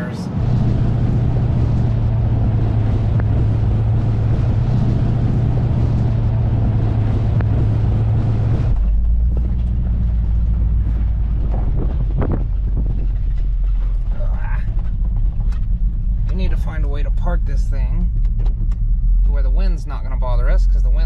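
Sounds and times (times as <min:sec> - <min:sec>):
car engine drone: 0:00.0 - 0:21.0
road noise: 0:00.0 - 0:21.0.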